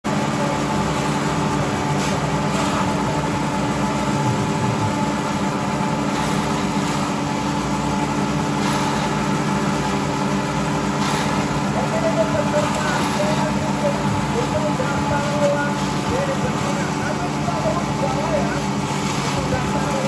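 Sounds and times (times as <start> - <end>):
grass choppers running: 0.1 - 20.0.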